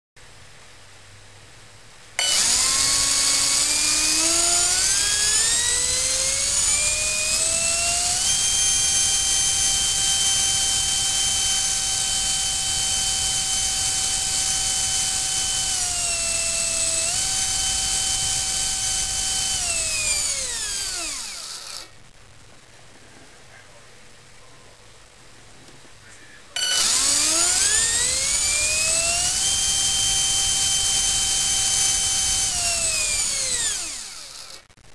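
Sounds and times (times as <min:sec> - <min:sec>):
electric ducted fan whine: 0:00.2 - 0:34.9.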